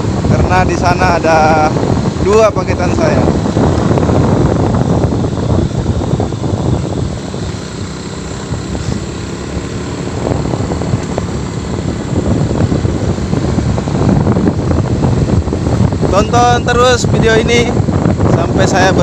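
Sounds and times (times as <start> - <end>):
vehicle engine running: 0.0 - 19.0
wind buffeting microphone: 0.0 - 19.0.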